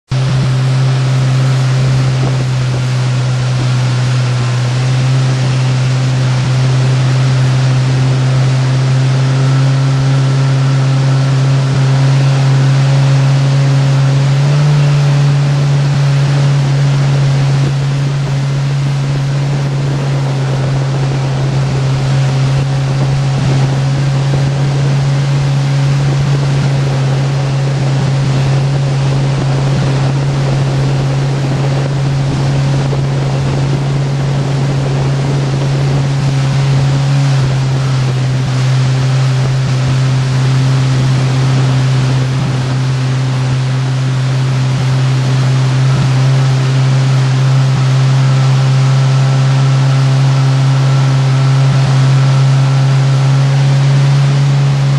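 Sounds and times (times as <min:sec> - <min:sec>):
motorboat engine running: 0:00.0 - 0:54.9
rushing water: 0:00.1 - 0:54.9
wind noise: 0:00.1 - 0:54.9.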